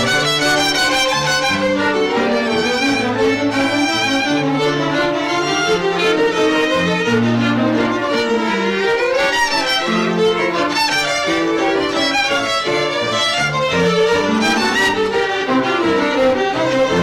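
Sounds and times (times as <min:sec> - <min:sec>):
violins playing classical piece: 0:00.0 - 0:17.0.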